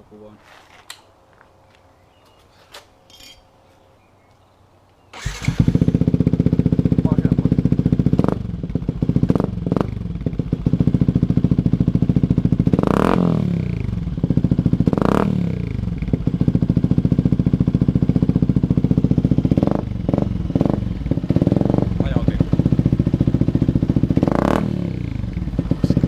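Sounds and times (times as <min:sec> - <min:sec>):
motorcycle engine revving: 0:05.1 - 0:26.0.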